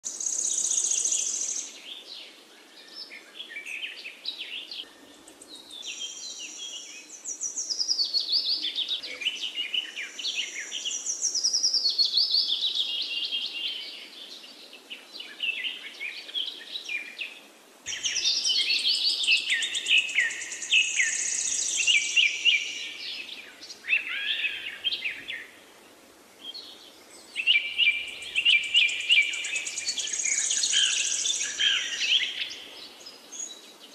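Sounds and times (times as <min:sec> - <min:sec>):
birds singing: 0:00.1 - 0:25.6, 0:26.4 - 0:33.9.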